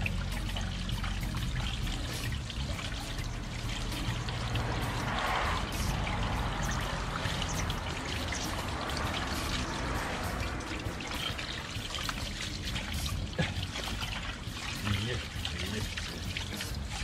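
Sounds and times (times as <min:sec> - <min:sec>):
hose water pouring over wheel: 0:00.0 - 0:17.0
water trickling onto pavement: 0:00.0 - 0:17.0.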